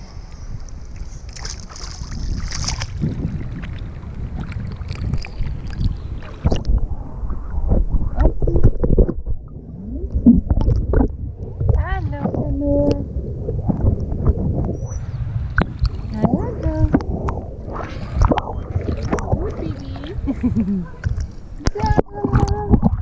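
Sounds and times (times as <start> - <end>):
water sloshing and splashing: 0.9 - 23.0
muffled underwater sound: 3.5 - 23.0.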